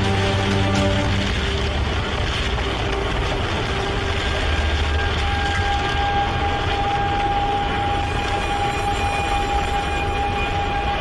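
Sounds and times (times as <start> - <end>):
heavy low rumble: 0.0 - 11.0
tornado winds buffeting a car: 0.0 - 11.0.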